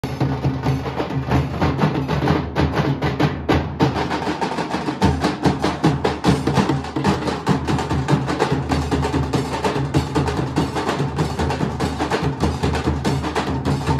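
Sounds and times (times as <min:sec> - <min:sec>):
barrel drums beaten fast: 0:00.0 - 0:13.9.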